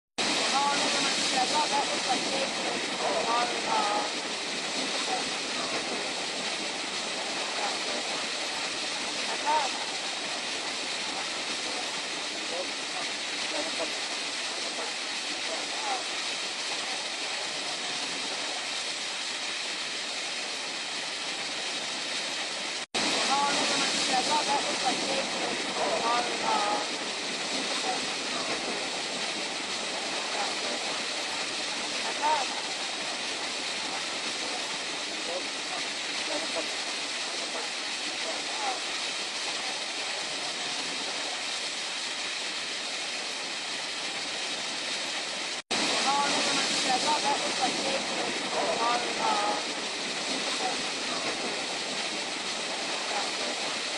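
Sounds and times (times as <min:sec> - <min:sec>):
waterfall rushing: 0:00.2 - 0:53.9.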